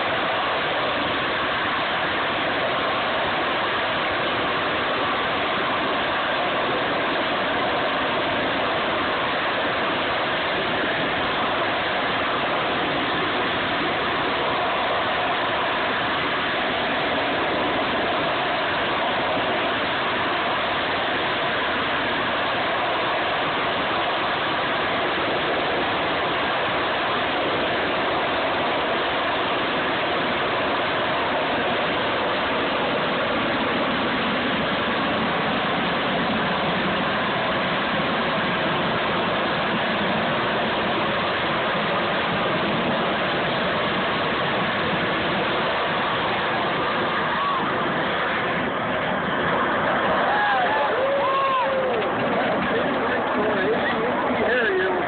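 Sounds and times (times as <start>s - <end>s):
jet engine at hover: 0.0s - 55.0s.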